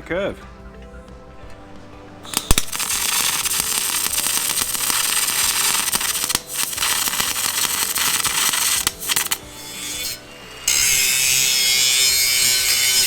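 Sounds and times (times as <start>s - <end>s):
welder crackling: 2.2s - 13.0s.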